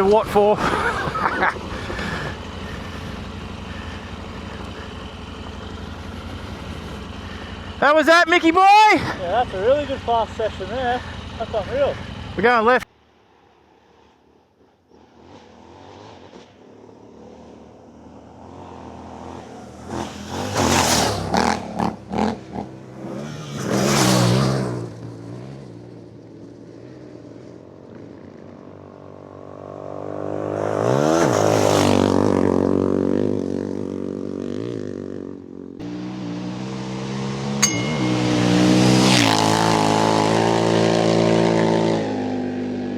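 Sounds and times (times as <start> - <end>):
motorcycle engine revving: 0.0 - 12.8, 14.9 - 42.9.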